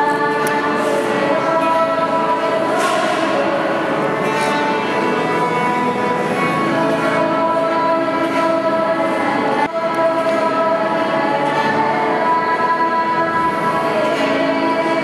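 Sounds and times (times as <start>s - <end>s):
music of long held chords: 0.0s - 15.0s.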